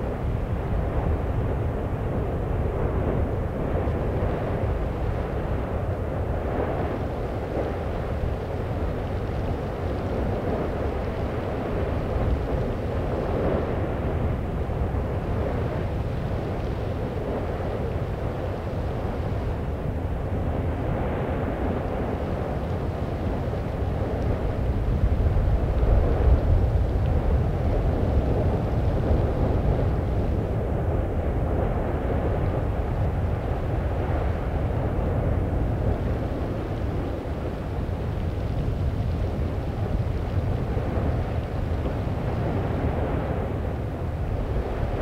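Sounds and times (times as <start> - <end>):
volcanic eruption rumbling: 0.0 - 45.0.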